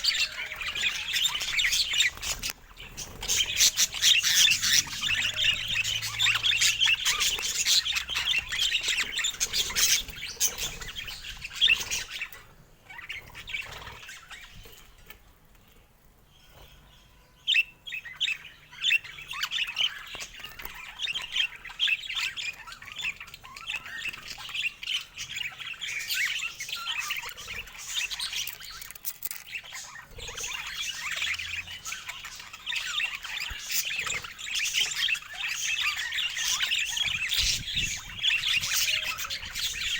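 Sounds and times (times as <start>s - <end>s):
budgerigars chattering: 0.0s - 15.2s, 17.5s - 39.9s.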